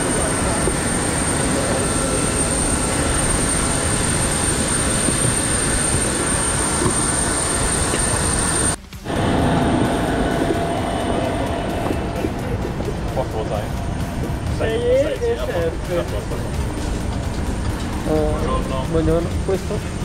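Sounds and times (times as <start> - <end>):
high jet whine: 0.0 - 20.0
jet engines roaring: 0.0 - 20.0.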